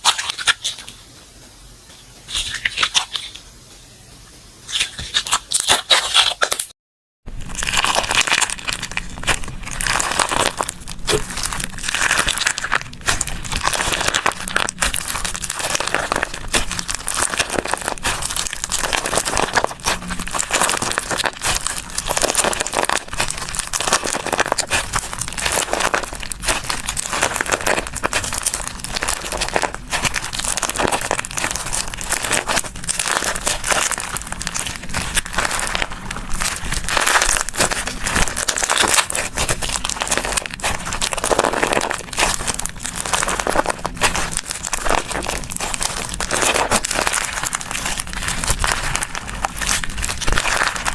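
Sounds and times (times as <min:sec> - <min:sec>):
slime squished by hand: 0:04.7 - 0:06.7, 0:07.3 - 0:50.9.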